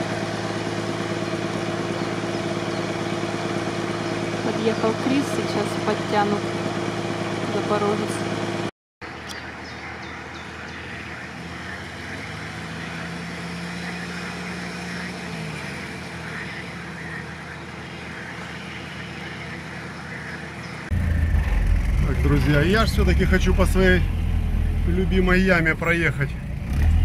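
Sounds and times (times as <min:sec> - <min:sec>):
off-road vehicle engine: 0:00.0 - 0:27.0.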